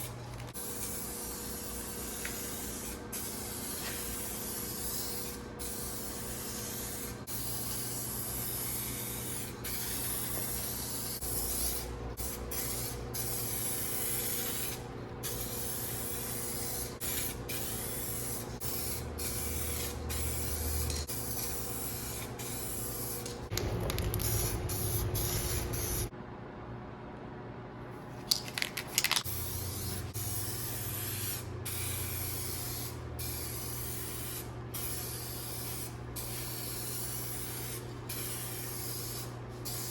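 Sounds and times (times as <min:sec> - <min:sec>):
aerosol spray can hissing: 0:00.6 - 0:26.1, 0:29.0 - 0:39.9.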